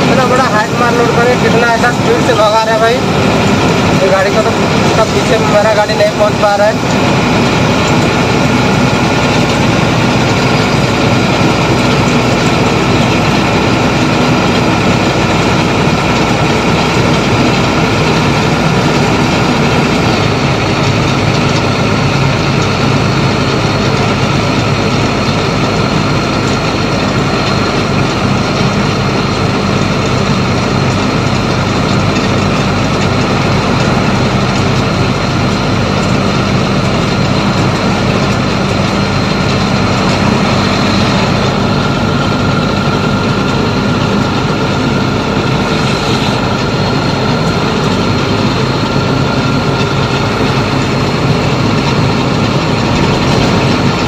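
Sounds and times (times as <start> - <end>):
diesel truck engine running: 0.0 - 54.0
road noise: 0.0 - 54.0.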